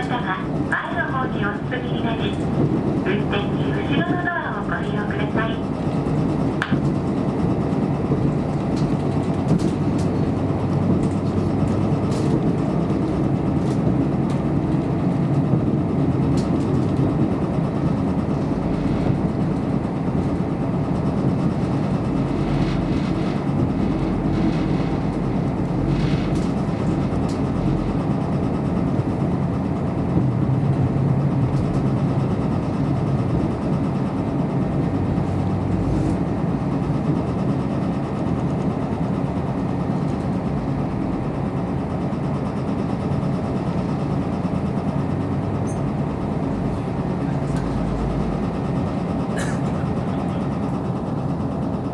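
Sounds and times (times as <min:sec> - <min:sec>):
railcar engine drone: 0:00.0 - 0:51.9
wheels running on rails: 0:00.0 - 0:51.9.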